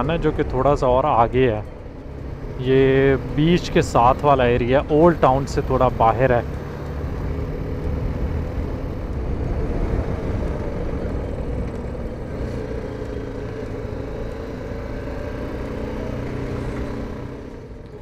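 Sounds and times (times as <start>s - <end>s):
motorcycle engine cruising: 0.0s - 18.0s
road and wind rumble: 0.0s - 18.0s.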